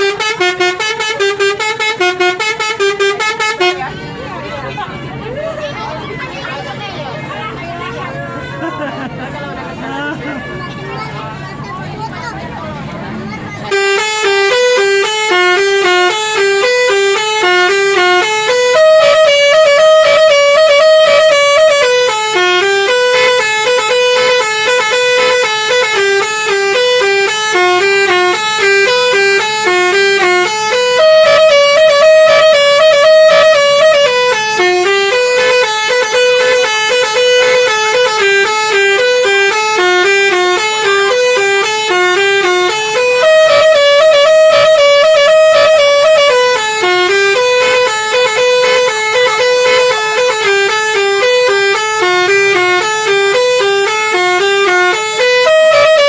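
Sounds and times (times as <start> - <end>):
musical bus horn playing tune: 0.0 - 8.9, 10.2 - 56.0.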